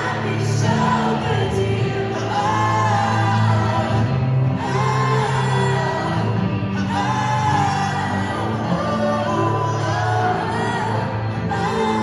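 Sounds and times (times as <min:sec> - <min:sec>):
live pop-rock band playing: 0:00.0 - 0:12.0.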